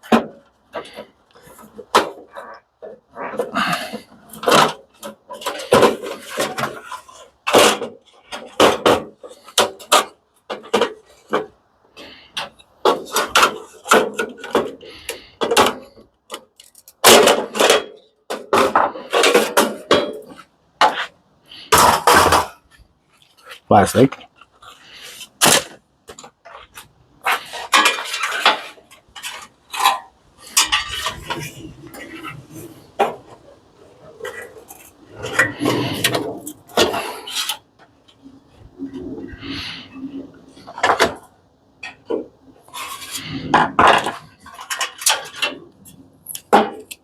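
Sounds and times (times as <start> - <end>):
machine parts clattering and scraping: 0.0 - 47.0.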